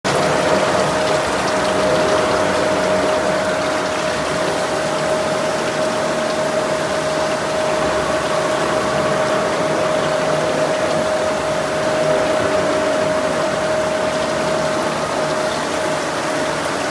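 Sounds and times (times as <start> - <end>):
constant mechanical tone: 0.0 - 16.9
gear cutting machine running: 0.0 - 16.9.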